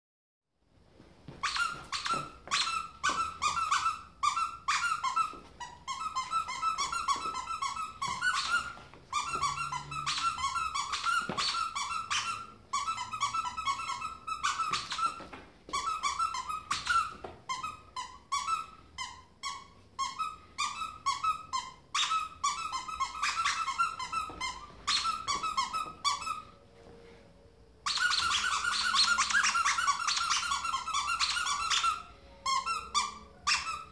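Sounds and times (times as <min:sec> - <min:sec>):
squeaky toy squeaking: 0:01.4 - 0:26.6, 0:27.8 - 0:33.9.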